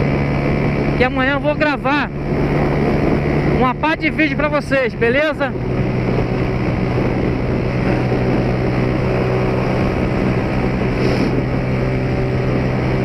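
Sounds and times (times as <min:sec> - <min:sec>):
road noise: 0:00.0 - 0:13.0
single-cylinder motorcycle engine: 0:00.0 - 0:13.0
wind noise: 0:00.0 - 0:13.0.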